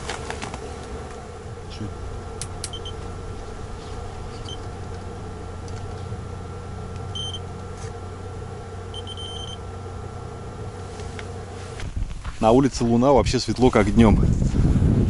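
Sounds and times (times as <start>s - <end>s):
heater low hum: 0.0s - 15.0s.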